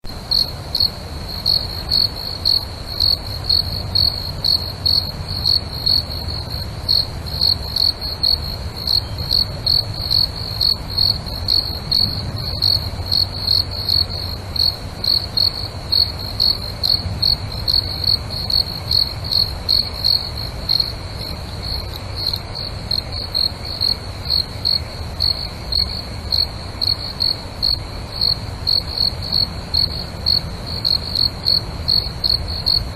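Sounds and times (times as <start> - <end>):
crickets chirping: 0.1 - 32.9.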